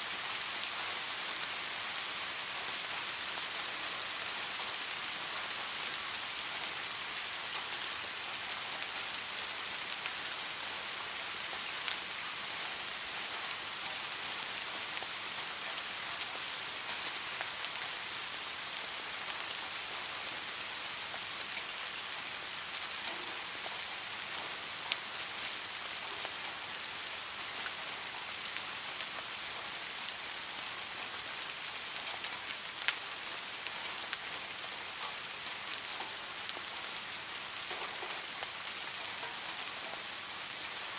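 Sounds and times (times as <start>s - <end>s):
steady rain falling: 0.0s - 40.9s
raindrops ticking close by: 0.2s - 40.9s.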